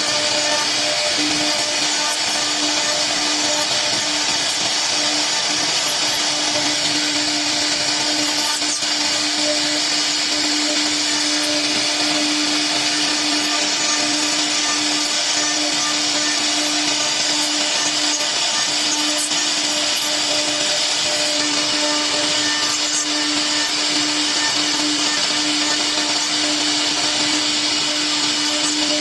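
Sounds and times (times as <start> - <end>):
cnc router hum: 0.0 - 29.0
hissing wood cutting noise: 0.0 - 29.0.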